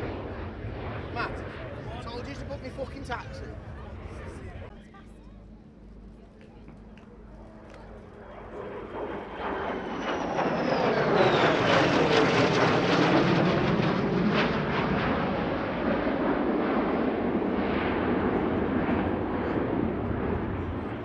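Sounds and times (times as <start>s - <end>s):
jet engine roaring in flyby: 0.0s - 4.7s, 7.9s - 21.0s.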